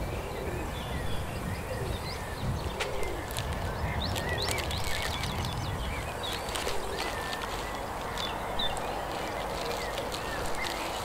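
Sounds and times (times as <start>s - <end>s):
outdoor background noise: 0.0s - 11.0s
songbirds singing: 0.0s - 11.0s.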